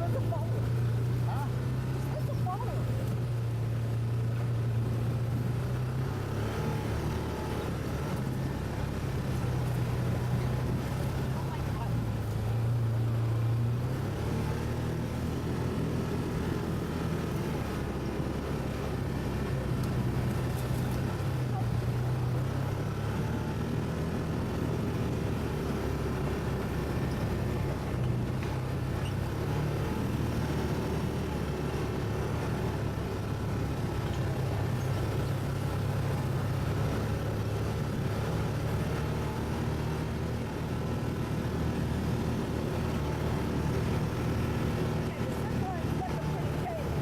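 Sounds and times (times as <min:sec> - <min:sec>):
atv engine droning: 0:00.0 - 0:47.0.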